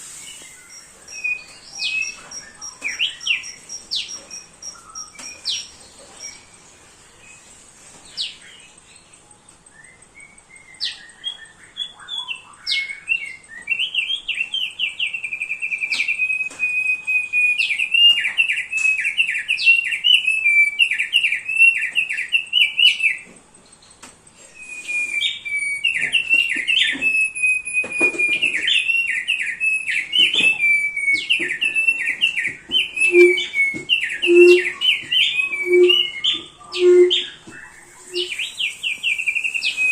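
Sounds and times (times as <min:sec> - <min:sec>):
bird chirping and singing: 0:00.3 - 0:06.6, 0:08.1 - 0:23.2, 0:24.7 - 0:39.9.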